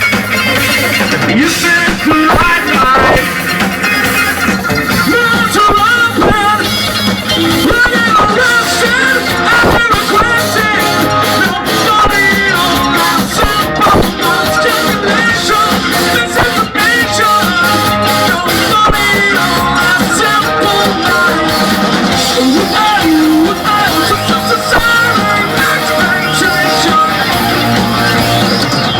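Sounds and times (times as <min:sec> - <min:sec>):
electric guitar: 0:00.0 - 0:28.9
live rock band playing: 0:00.0 - 0:28.9
person singing: 0:00.0 - 0:28.9.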